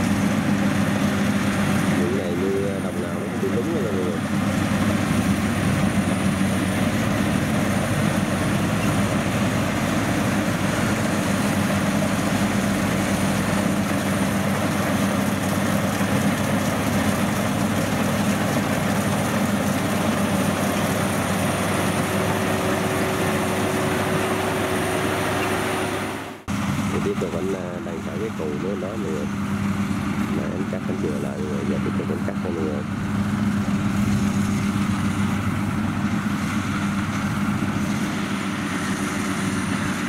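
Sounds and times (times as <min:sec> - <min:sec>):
combine harvester engine drone: 0:00.0 - 0:40.0.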